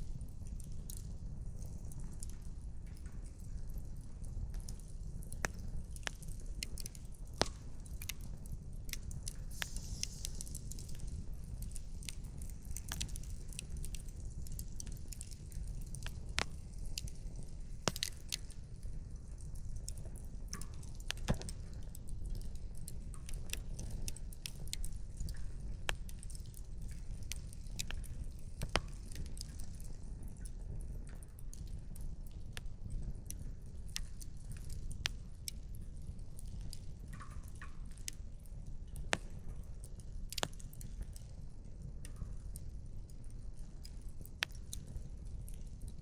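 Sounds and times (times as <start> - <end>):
campfire crackling: 0.1 - 46.0.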